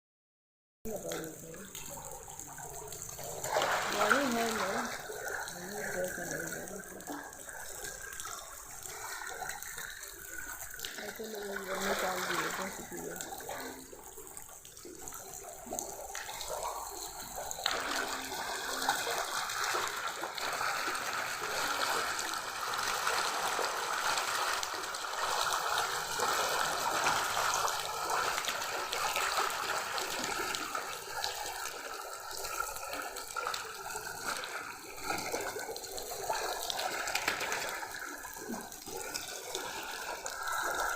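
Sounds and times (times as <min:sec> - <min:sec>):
water splashing in fish tank: 0:00.9 - 0:40.9.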